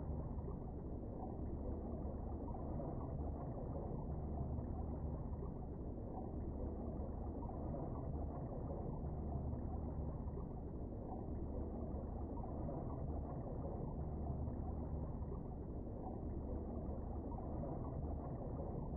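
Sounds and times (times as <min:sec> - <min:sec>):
muffled underwater rumble and hiss: 0:00.0 - 0:18.9.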